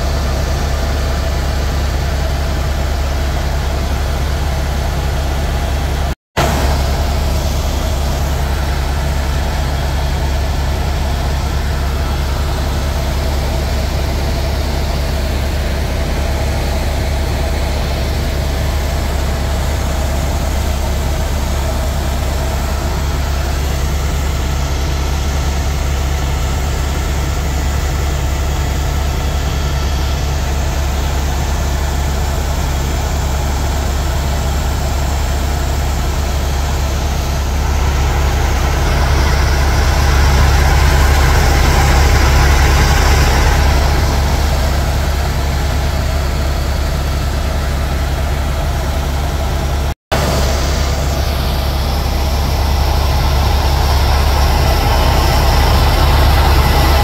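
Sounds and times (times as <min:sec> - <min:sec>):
helicopter cabin drone: 0:00.0 - 0:57.0.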